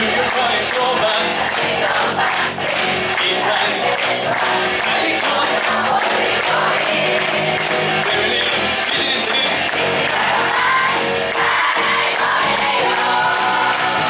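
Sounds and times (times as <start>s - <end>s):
audience shouting and cheering: 0.0s - 14.0s
live concert music with singing: 0.0s - 14.0s.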